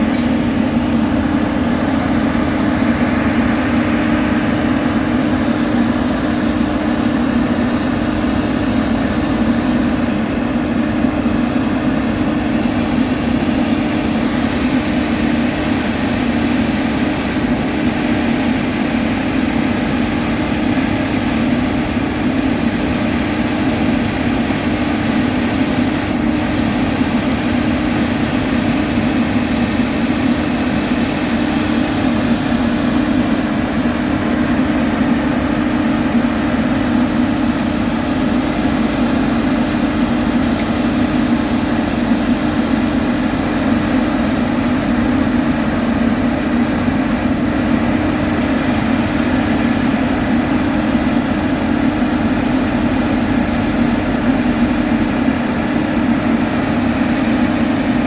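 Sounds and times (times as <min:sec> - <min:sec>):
construction machinery engine drone: 0:00.0 - 0:58.0.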